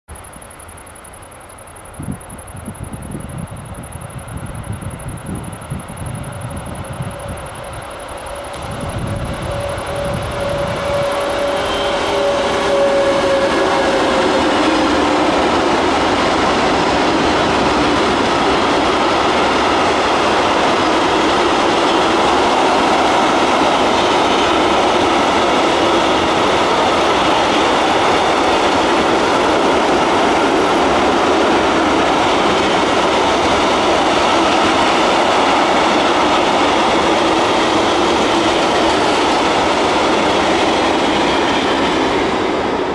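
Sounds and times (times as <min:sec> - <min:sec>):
electric locomotive two-note whine: 0:00.2 - 0:42.9
freight train wheels rumbling on rails: 0:00.2 - 0:42.9.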